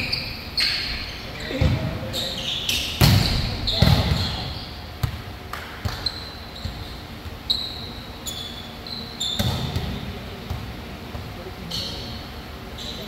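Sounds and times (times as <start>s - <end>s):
sneakers squeaking on gym floor: 0.0s - 5.2s, 5.8s - 13.0s.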